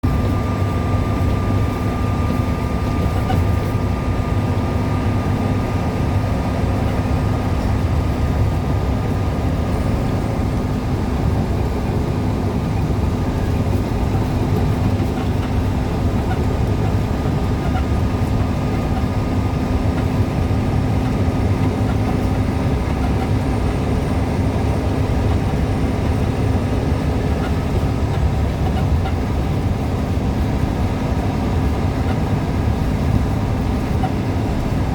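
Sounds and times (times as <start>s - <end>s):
truck engine and road drone: 0.0s - 34.9s.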